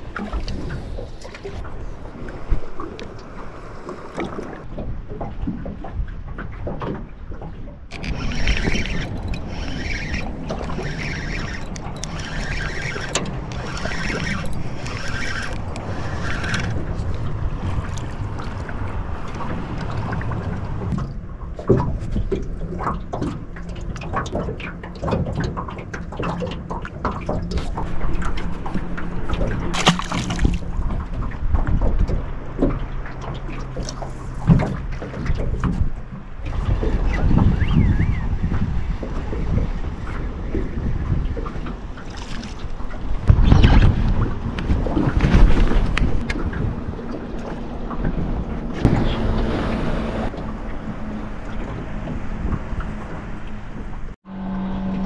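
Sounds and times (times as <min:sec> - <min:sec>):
water slapping against boat hull: 0:00.0 - 0:54.2
wind buffeting microphone: 0:00.0 - 0:55.0.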